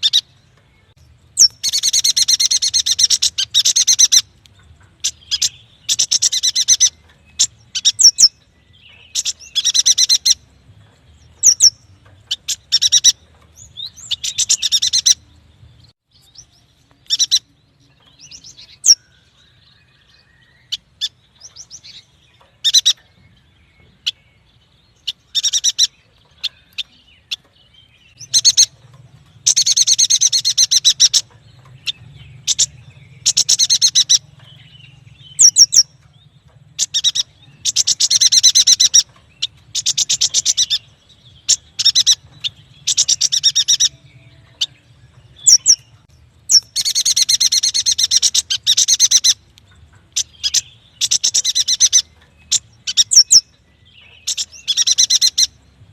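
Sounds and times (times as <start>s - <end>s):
bird chattering trills: 0.0s - 0.4s, 1.3s - 10.5s, 11.4s - 15.3s, 17.0s - 23.2s, 25.0s - 27.5s, 28.1s - 55.6s.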